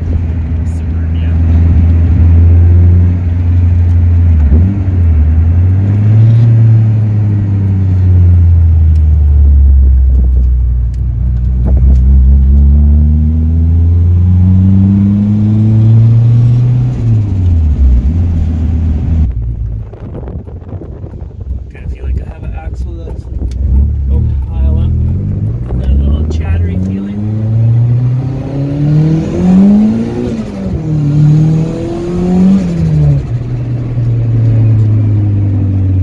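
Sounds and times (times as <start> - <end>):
car engine revving inside cabin: 0.0 - 22.3, 23.3 - 36.0.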